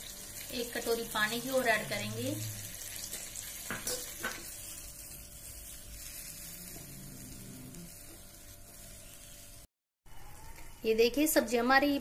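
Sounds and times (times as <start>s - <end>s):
curry sizzling in a pan: 0.0s - 9.7s.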